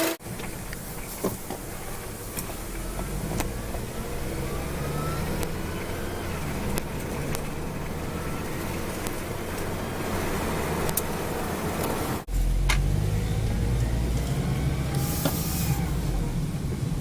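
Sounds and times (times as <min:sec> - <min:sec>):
transmission whine: 0:00.0 - 0:16.9
car engine running: 0:00.0 - 0:17.0.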